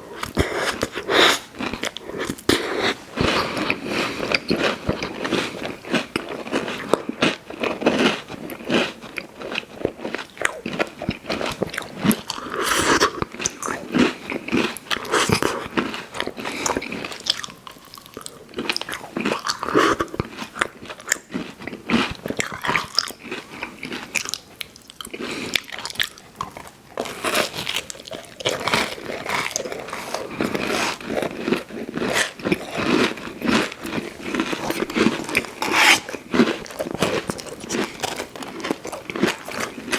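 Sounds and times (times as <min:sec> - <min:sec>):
person chewing crunchy candy: 0:00.0 - 0:39.9.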